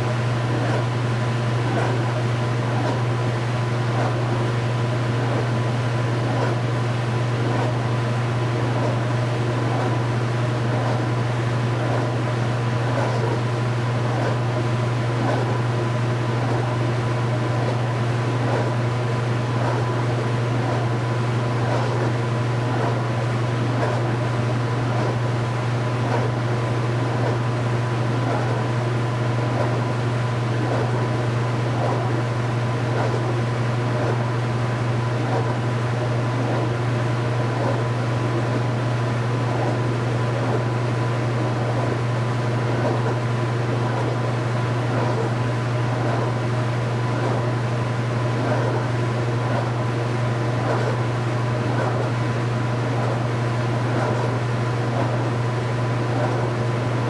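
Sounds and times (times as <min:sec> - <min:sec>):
washing machine hum: 0:00.0 - 0:57.0.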